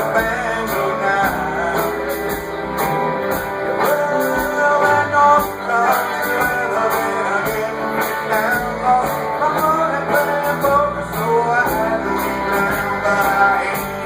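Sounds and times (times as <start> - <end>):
electric guitar: 0.0 - 14.0
man singing: 0.0 - 14.0
steady drum beat: 0.0 - 14.0.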